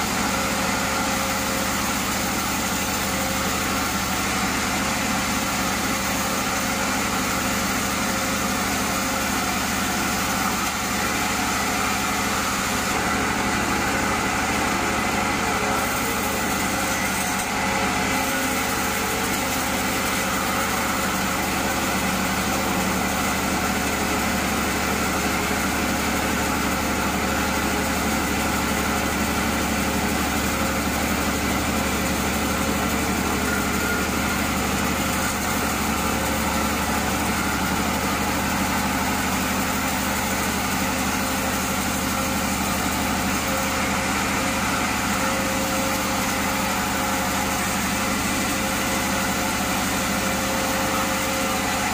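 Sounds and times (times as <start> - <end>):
band saw cutting log: 0.0 - 51.9.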